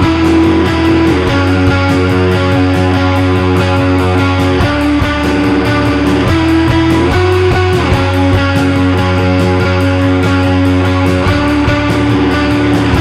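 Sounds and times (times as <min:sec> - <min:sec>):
rock music with strummed guitar: 0:00.0 - 0:13.0.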